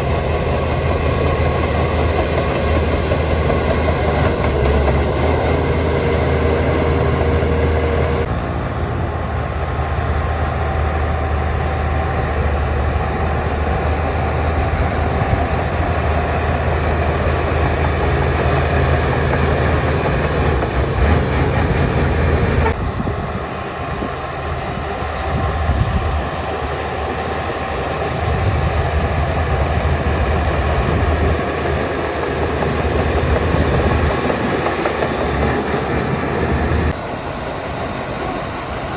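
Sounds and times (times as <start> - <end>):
diesel machinery engine rumble: 0.0 - 38.9.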